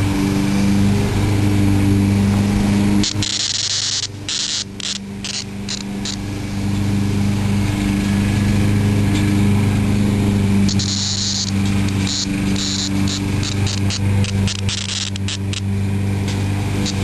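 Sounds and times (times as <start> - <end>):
cicada buzzing: 0.0 - 17.0
low machine hum: 0.0 - 17.0.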